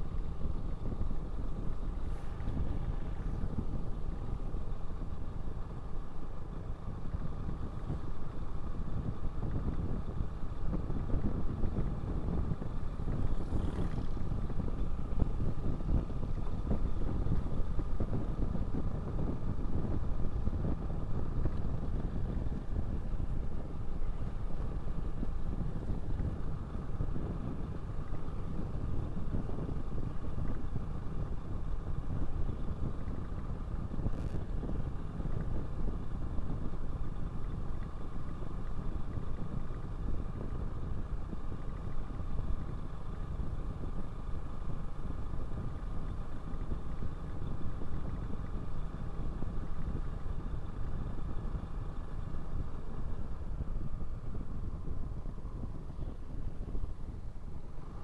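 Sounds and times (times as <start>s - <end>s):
faint steady whine: 0.0s - 58.0s
road noise: 0.0s - 58.0s
motorcycle engine running: 10.2s - 58.0s.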